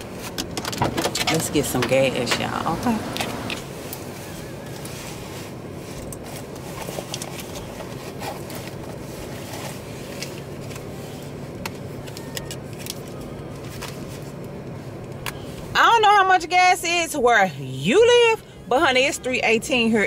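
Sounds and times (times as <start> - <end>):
fuel pump humming: 0.0 - 16.3.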